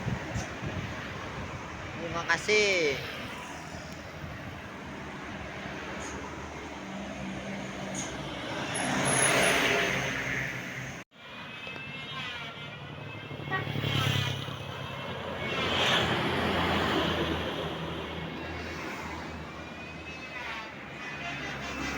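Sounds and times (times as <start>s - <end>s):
buses passing by: 0.0s - 21.9s.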